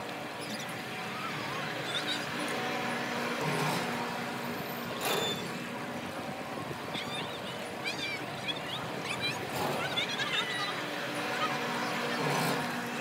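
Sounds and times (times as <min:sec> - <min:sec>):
amusement park background noise: 0:00.0 - 0:13.0.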